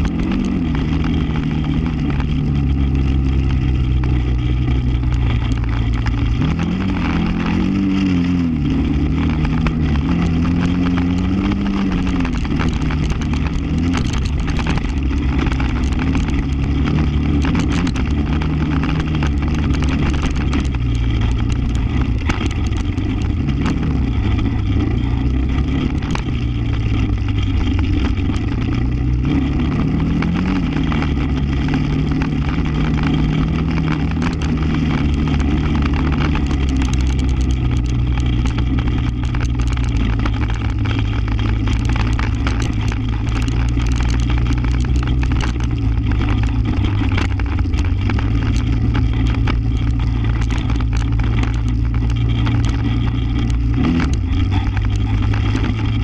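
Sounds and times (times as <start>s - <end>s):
atv engine revving: 0.0s - 56.0s
low rumble: 0.0s - 56.0s
rattles: 0.0s - 56.0s.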